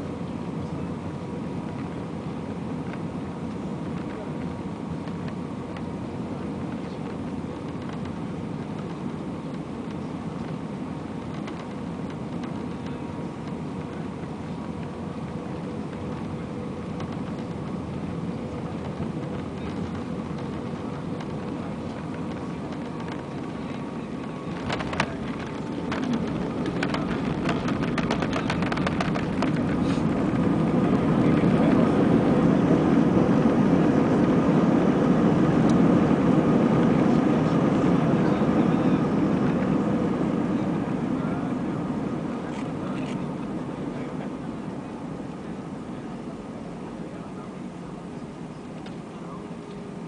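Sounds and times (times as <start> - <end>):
airplane cabin engine noise: 0.0 - 50.0
rush of air over wing: 0.0 - 50.0.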